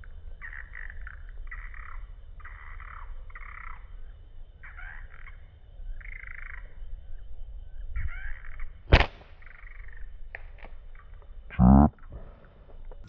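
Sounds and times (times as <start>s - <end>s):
frogs croaking: 0.0s - 13.0s.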